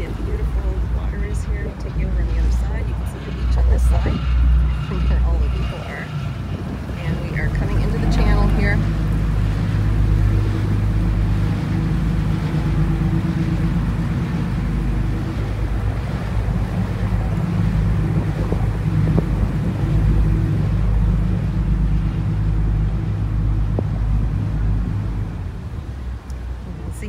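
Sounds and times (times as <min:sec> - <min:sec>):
boat engine droning: 0:00.0 - 0:27.0
wind and water hiss: 0:00.0 - 0:27.0.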